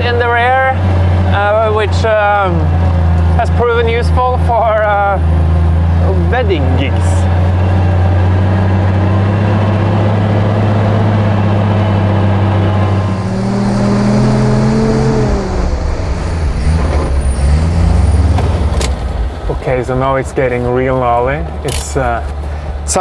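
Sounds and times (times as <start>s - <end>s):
truck engine running under load: 0.0s - 23.0s.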